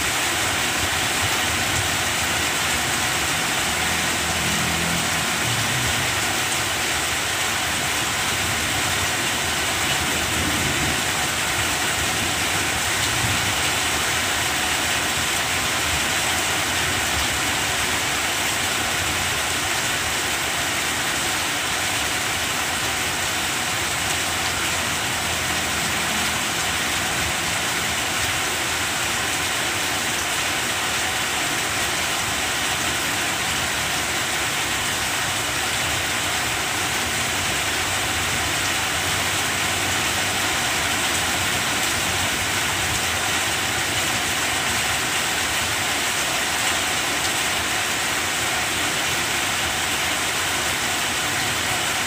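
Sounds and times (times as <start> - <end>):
rain on plants: 0.0 - 52.0.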